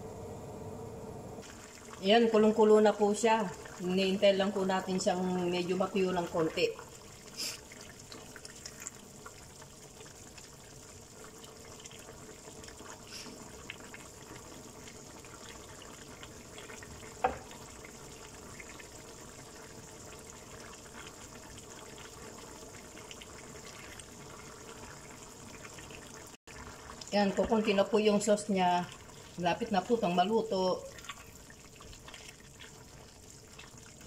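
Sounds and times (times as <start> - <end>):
sauce bubbling in a pan: 1.4 - 34.0.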